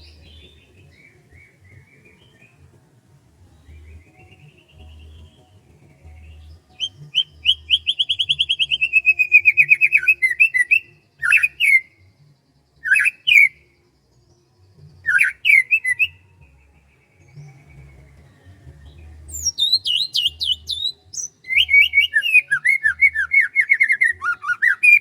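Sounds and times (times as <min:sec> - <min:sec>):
bird singing trills: 0:00.0 - 0:25.0.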